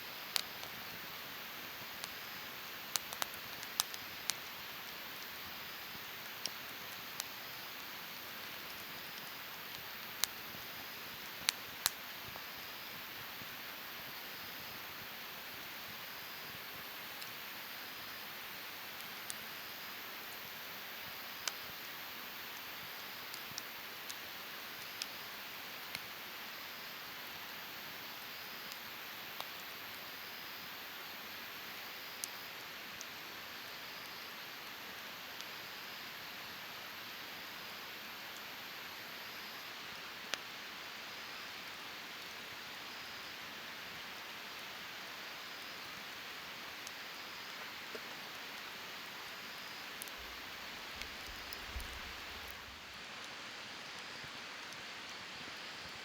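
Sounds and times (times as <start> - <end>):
fire crackles and pops: 0.0 - 56.0
wood fire hissing: 0.0 - 56.0.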